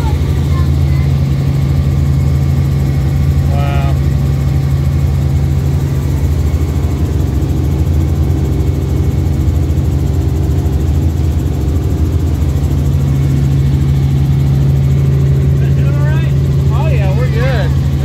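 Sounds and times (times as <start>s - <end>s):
helicopter rotor drone: 0.0s - 18.0s.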